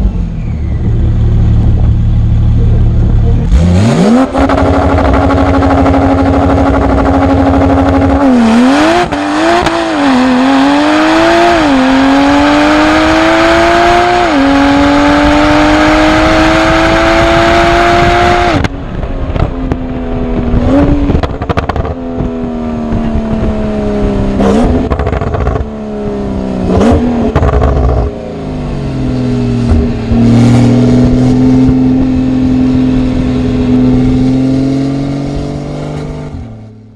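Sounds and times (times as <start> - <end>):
sports car engine revving: 1.3 - 18.7, 20.3 - 36.9.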